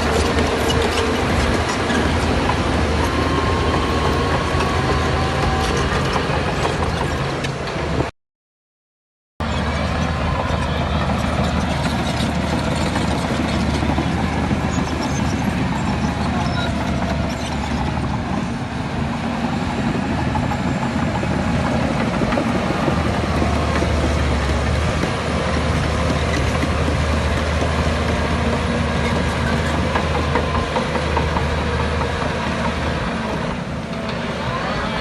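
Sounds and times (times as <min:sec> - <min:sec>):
bulldozer diesel engine running: 0:00.0 - 0:08.1, 0:09.4 - 0:35.0
steel tracks clanking: 0:00.0 - 0:08.1, 0:09.4 - 0:35.0.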